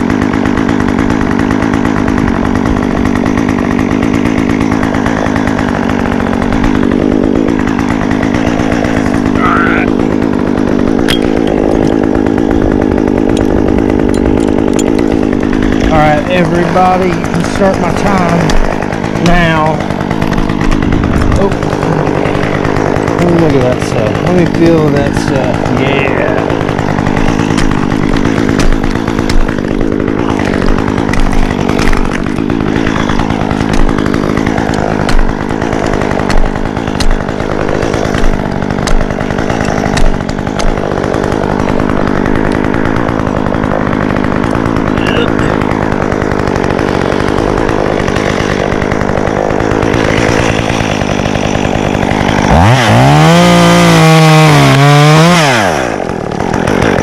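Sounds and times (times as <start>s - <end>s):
chainsaw engine: 0.0s - 57.0s.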